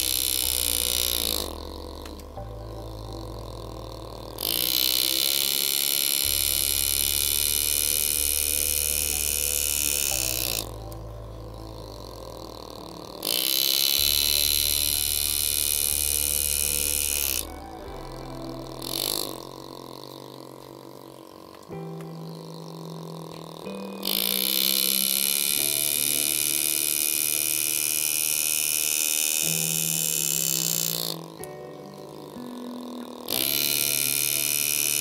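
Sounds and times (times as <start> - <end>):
engraving tool buzzing on steel: 0.0 - 35.0.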